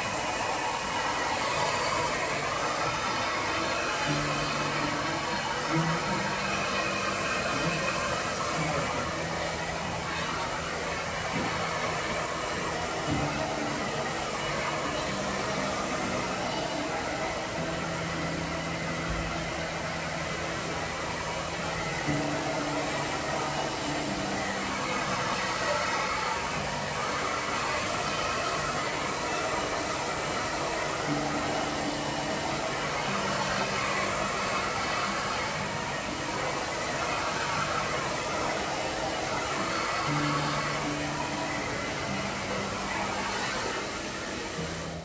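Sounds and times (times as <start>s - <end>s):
background music: 0.0s - 45.0s
hair dryer blowing: 0.0s - 45.0s.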